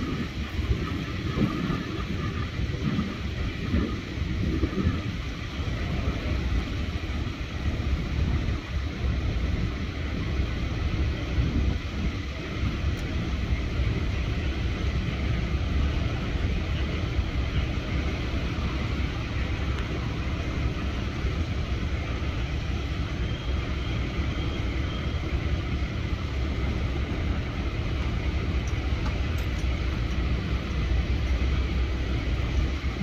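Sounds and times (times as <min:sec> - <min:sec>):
diesel engine rumble: 0:00.0 - 0:33.0.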